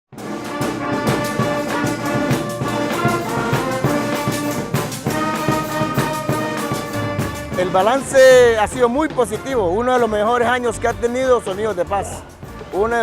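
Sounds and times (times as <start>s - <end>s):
percussion steady beat: 0.1s - 13.0s
wind band with brass: 0.1s - 13.0s.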